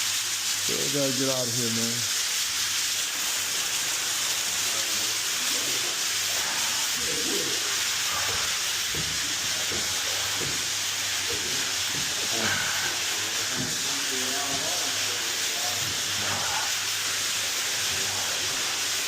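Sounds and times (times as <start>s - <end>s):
water spraying with loud hiss: 0.0s - 19.0s.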